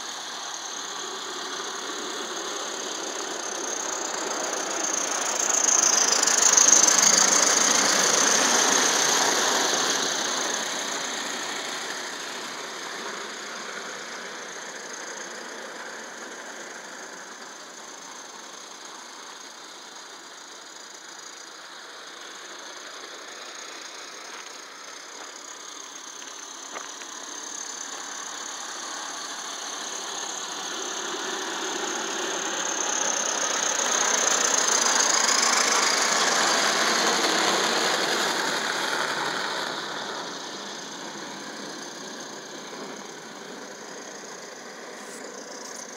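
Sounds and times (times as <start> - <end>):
model steam locomotive running: 0.0 - 45.9
steam hiss: 0.0 - 45.9.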